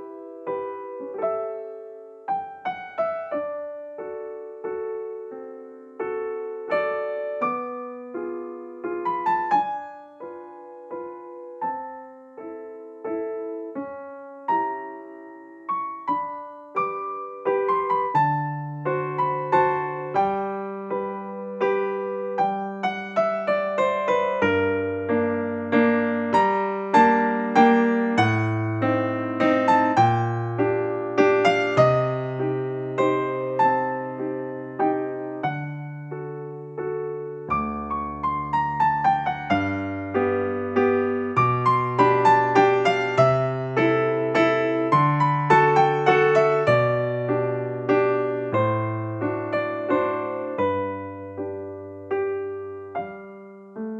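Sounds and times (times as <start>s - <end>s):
gentle piano melody: 0.0s - 53.9s.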